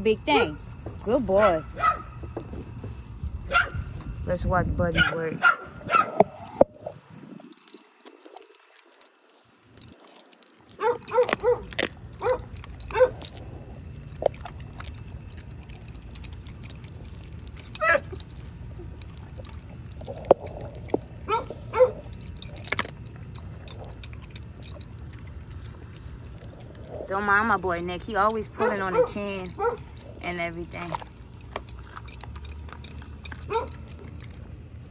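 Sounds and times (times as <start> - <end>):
dog chewing and crunching: 0.0 - 4.2, 4.9 - 34.9
chain clinking: 0.0 - 34.9.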